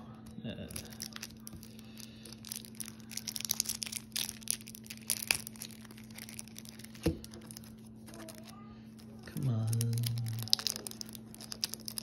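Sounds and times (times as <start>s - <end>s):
shrink wrap crackling and tearing: 0.2s - 12.0s.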